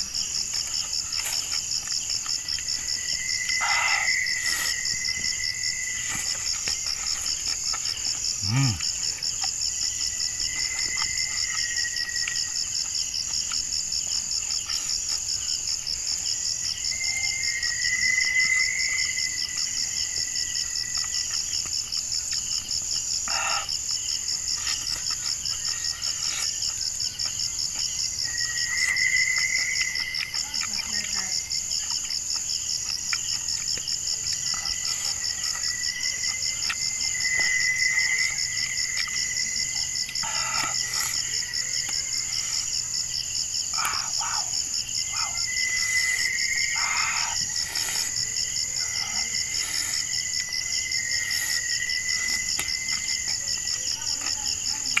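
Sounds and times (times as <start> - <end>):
crickets trilling: 0.0 - 55.0
frogs calling: 1.2 - 55.0.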